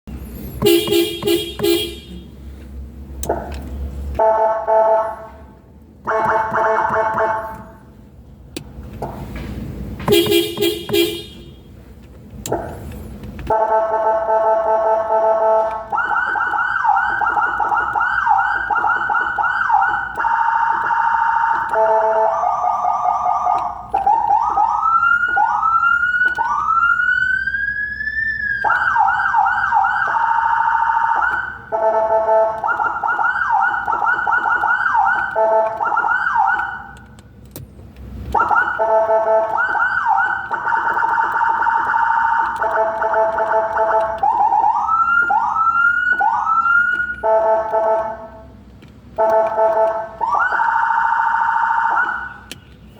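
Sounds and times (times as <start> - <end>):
siren through car horn: 0.6 - 2.3, 4.2 - 7.8, 10.1 - 11.6, 13.5 - 37.1, 38.3 - 48.6, 49.2 - 52.6.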